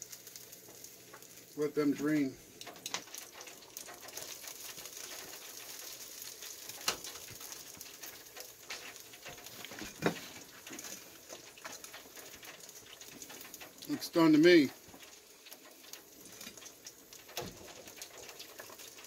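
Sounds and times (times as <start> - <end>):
fish frying in oil: 0.0 - 19.0.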